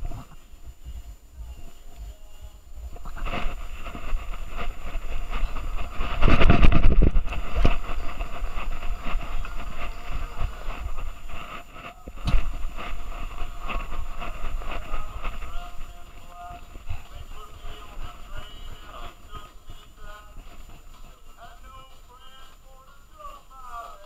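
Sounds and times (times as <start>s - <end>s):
camera rubbing and scraping: 2.8s - 22.4s.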